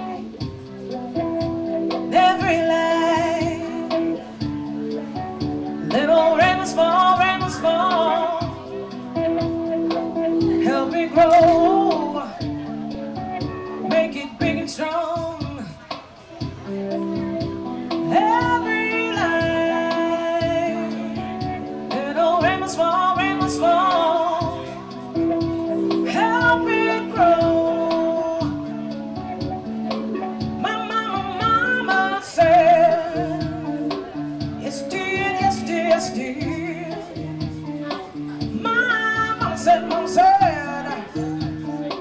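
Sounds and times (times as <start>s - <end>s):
guitar: 0.0s - 42.0s
person singing with vibrato: 0.0s - 42.0s.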